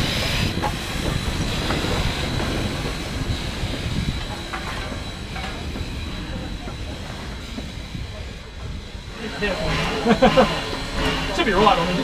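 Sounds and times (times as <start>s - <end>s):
train clicks and knocks: 0.0s - 12.0s
train rumbling: 0.0s - 12.0s.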